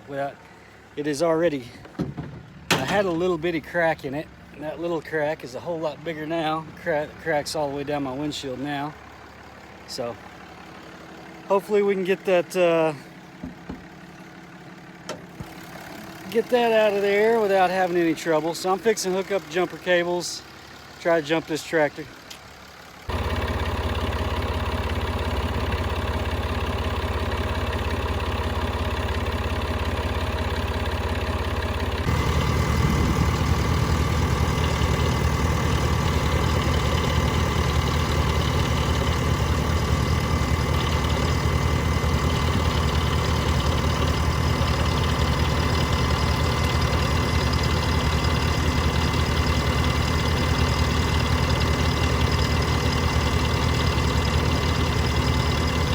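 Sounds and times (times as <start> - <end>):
vehicle engine idling: 0.0 - 55.9.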